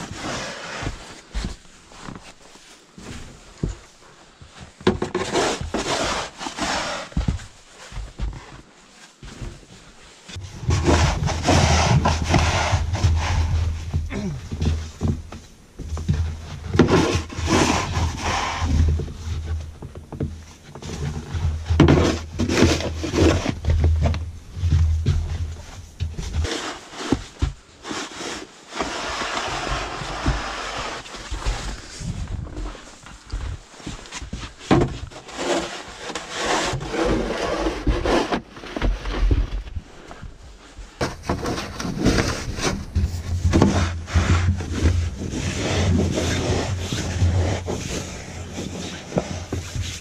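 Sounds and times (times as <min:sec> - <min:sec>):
snow shovel scraping wooden deck: 0:00.0 - 0:03.9, 0:04.6 - 0:15.2, 0:15.8 - 0:20.1, 0:20.7 - 0:25.4, 0:26.1 - 0:50.0.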